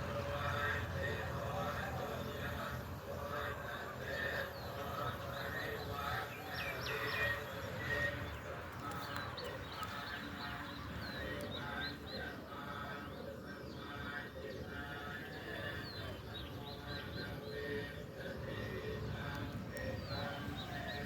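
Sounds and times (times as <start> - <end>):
small birds chirping: 0.2 - 21.0.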